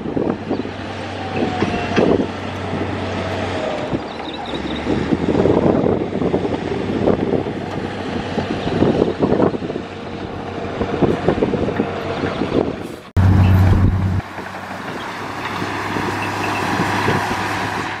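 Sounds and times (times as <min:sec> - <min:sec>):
diesel machinery engine: 0:00.0 - 0:18.0.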